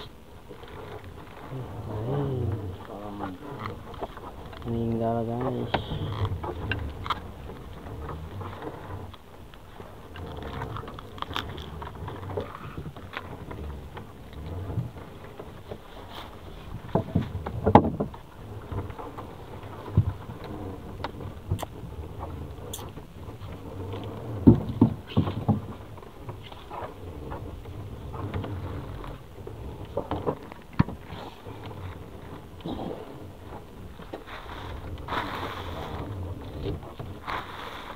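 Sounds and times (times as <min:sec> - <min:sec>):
low steady rumble: 0:00.0 - 0:37.9.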